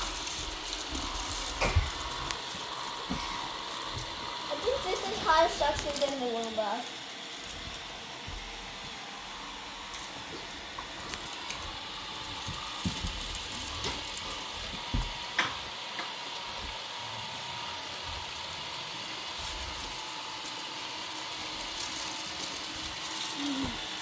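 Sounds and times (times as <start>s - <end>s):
robot vacuum motor whirring: 0.0s - 24.0s.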